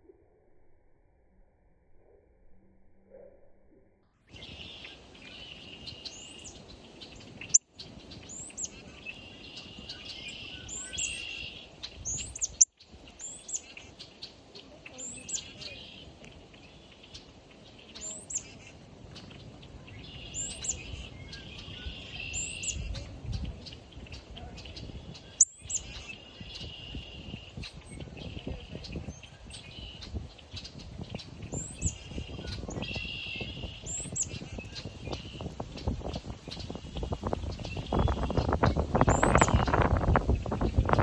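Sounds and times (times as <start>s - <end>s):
wavering background birdsong: 4.1s - 41.0s
wind rumbling on microphone: 4.3s - 13.9s, 14.6s - 41.0s
small birds chirping: 4.3s - 41.0s.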